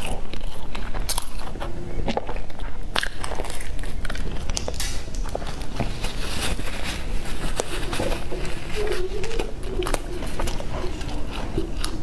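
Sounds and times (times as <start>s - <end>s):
chewing bread: 0.0s - 12.0s
low steady hum: 0.0s - 12.0s.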